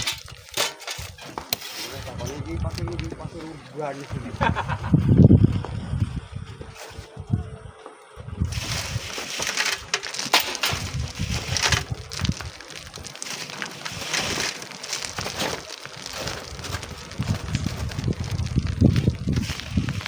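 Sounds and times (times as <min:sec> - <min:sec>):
crunching and scraping strokes: 0:00.0 - 0:20.0
wind buffeting microphone: 0:02.0 - 0:20.0.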